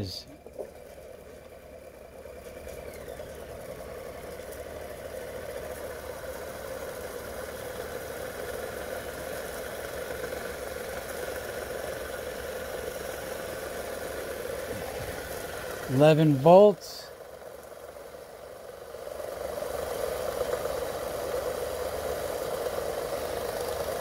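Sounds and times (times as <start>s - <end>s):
rotor whirring hum: 0.0s - 24.0s.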